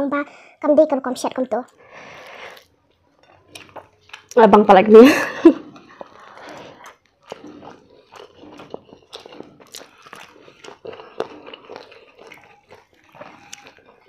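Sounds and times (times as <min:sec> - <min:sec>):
chewing and mouth sounds: 0:01.3 - 0:04.4, 0:05.5 - 0:14.0.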